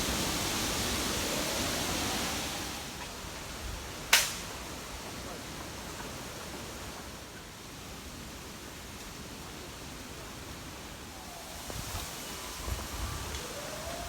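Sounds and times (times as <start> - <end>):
wind and rain rushing: 0.0 - 5.2, 6.6 - 14.0.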